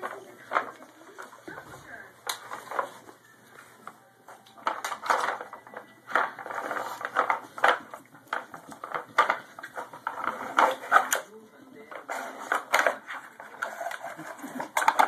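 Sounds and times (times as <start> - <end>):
plastic puzzle toy clattering: 0.0 - 3.1, 4.3 - 15.0.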